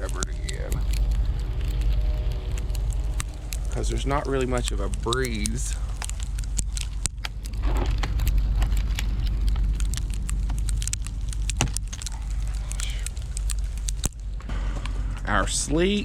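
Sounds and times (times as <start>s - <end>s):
sleet ticking on car and ground: 0.0s - 15.8s
steady low rumble: 0.0s - 16.0s.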